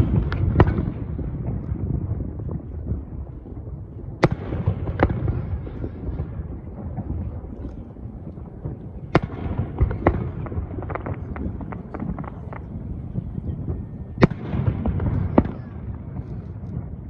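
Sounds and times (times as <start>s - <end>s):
crackling firework pops: 0.0s - 17.0s
steady low rumble: 0.0s - 17.0s.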